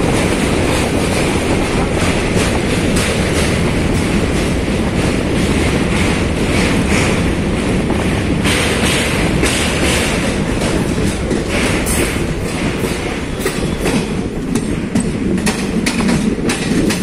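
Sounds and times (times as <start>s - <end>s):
train clatter: 0.0s - 17.0s.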